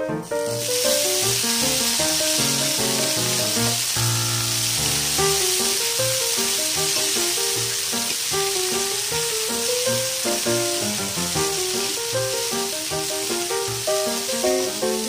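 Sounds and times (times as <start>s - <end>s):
background music: 0.0s - 15.0s
vegetables sizzling in a wok: 0.1s - 15.0s.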